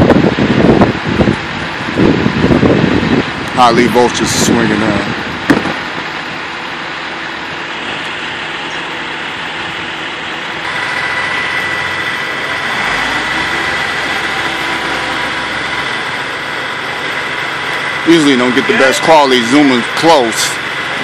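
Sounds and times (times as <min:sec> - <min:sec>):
thin steady high whine: 0:00.0 - 0:21.0
truck engine running: 0:00.0 - 0:21.0.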